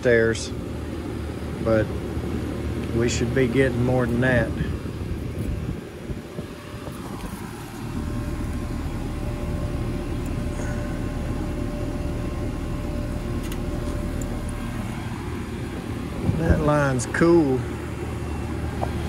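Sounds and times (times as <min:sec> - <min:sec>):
air conditioner fan hum: 0:00.0 - 0:19.0.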